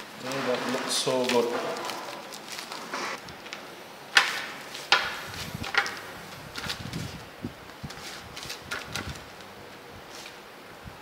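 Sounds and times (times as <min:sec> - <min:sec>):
plastic sheet crinkling: 0:00.2 - 0:09.5.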